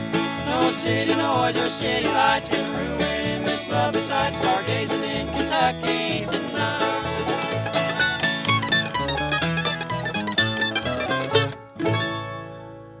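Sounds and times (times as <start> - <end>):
string band playing: 0.0 - 13.0.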